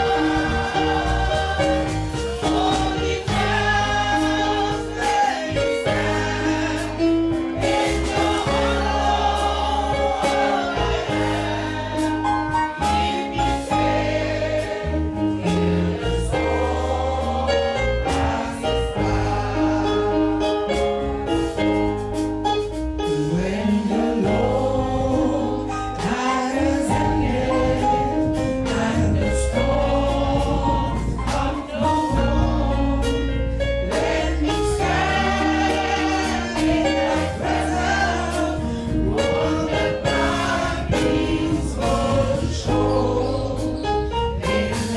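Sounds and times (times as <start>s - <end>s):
choir singing: 0.0s - 22.0s, 23.2s - 44.9s
bass and drums beat: 0.0s - 44.9s.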